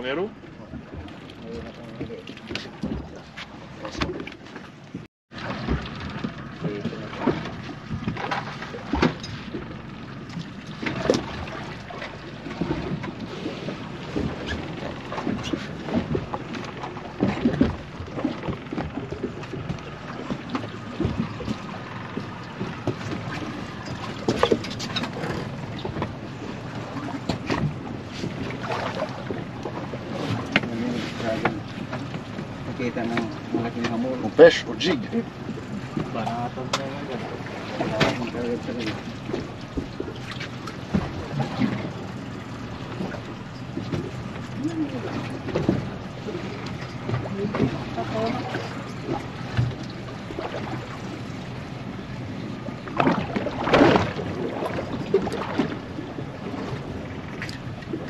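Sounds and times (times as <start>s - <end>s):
water against boat hull: 0.0s - 58.0s
wind: 0.0s - 58.0s.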